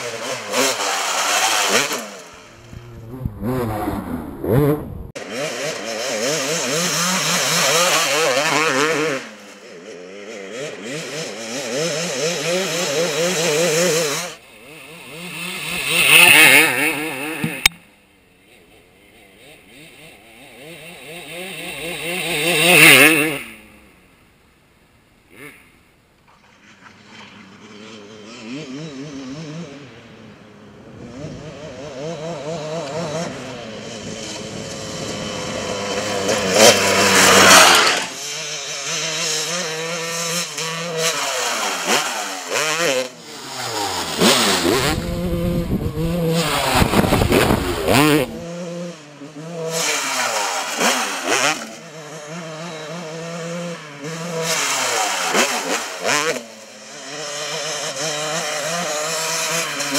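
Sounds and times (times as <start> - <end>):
dirt bike engine revving: 0.0 - 24.1, 25.3 - 25.8, 26.6 - 59.9.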